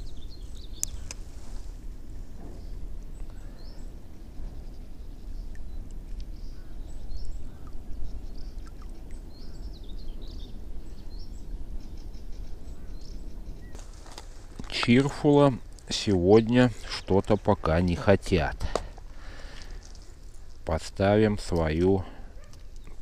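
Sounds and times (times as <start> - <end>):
low rumble of open-air noise: 0.0 - 23.0
small birds chirping: 0.0 - 23.0.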